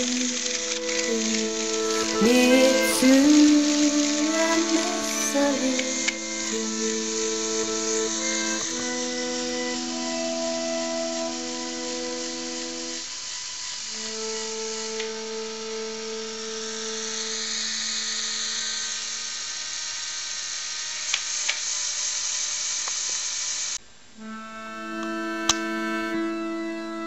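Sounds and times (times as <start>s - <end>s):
slow held-note music: 0.0s - 19.9s, 24.2s - 27.0s.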